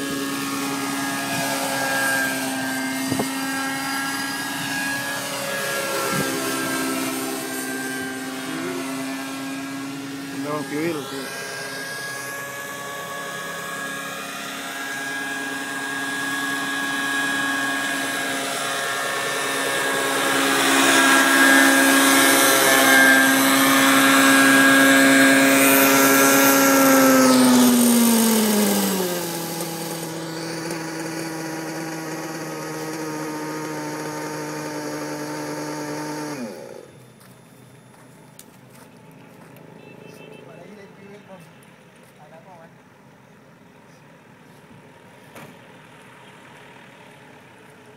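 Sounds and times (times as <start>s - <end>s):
model helicopter motor and rotors: 0.0s - 47.9s.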